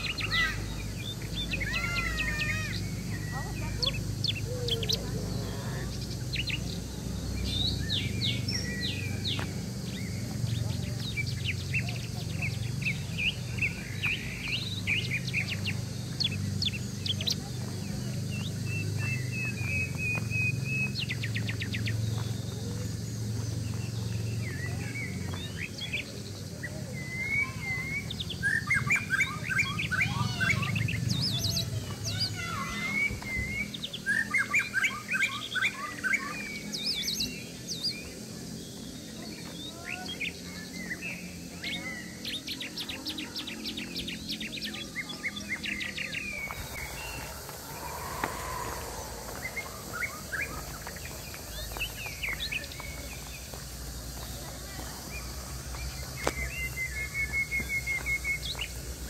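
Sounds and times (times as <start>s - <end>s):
birds chirping and trilling: 0.0s - 54.3s.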